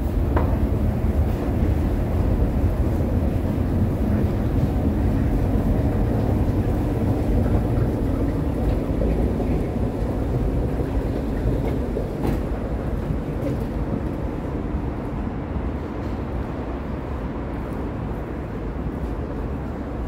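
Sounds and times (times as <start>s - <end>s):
low rumble of underground station: 0.0s - 20.0s.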